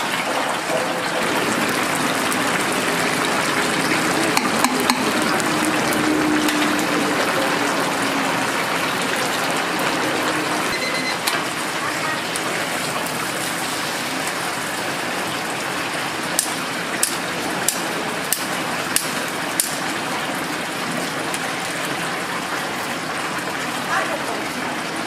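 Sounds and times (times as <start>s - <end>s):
hot oil bubbling and sizzling: 0.0s - 25.0s.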